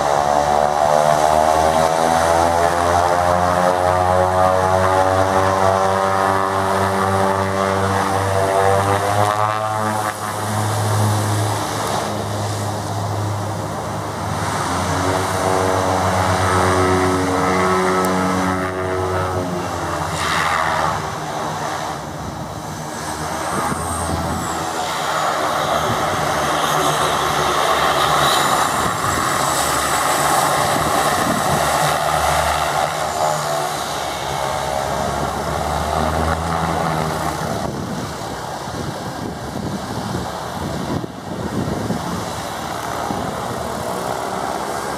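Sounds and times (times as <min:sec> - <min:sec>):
turboprop aircraft taking off: 0:00.0 - 0:44.9
turboprop propellers droning: 0:00.0 - 0:44.9.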